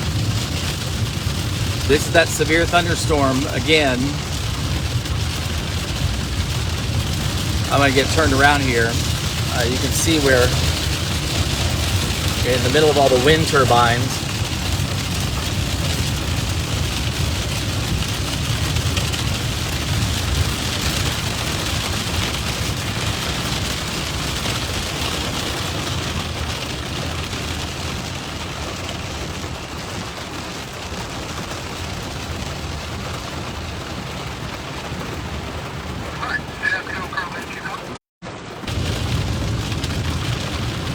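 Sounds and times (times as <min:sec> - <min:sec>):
rain on car: 0:00.0 - 0:40.9
road and engine noise in car: 0:00.0 - 0:40.9.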